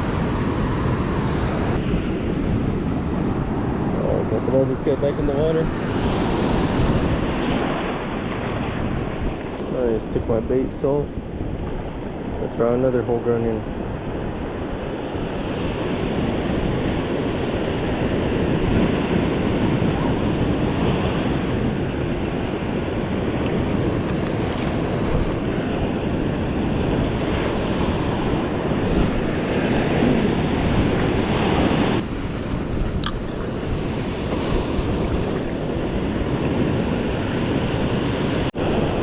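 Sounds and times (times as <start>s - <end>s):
ocean surf washing ashore: 0.0s - 39.0s
wind buffeting microphone: 0.0s - 39.0s.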